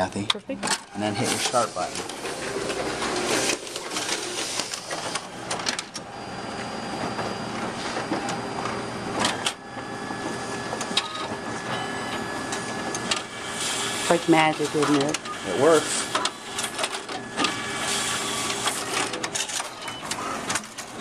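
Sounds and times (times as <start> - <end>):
copier mechanical whir: 0.0 - 21.0.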